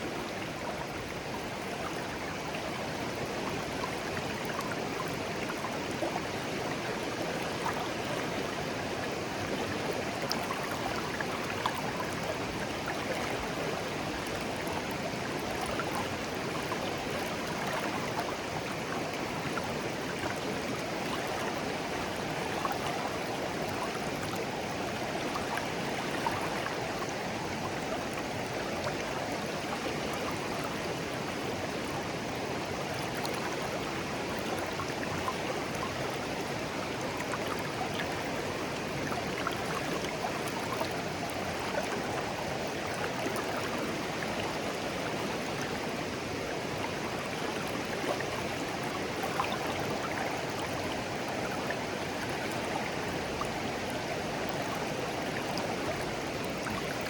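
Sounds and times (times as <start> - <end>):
stream babbling over stones: 0.1 - 57.0.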